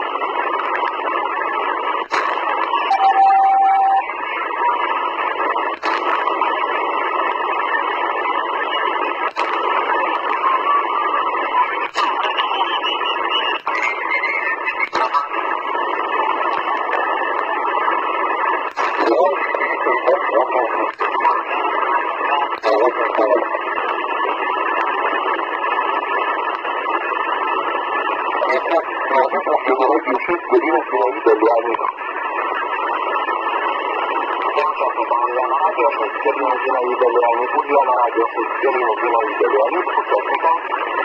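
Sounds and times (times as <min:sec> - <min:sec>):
radio receiver hiss: 0:00.0 - 0:41.0.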